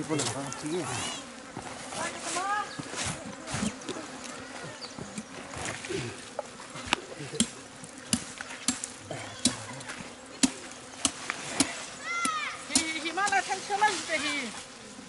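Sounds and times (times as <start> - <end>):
flies buzzing: 0.0 - 15.0.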